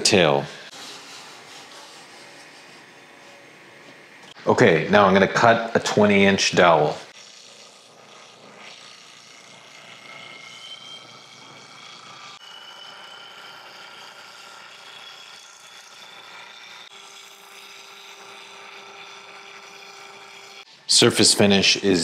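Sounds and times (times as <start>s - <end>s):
trim router high whine: 0.0s - 22.0s.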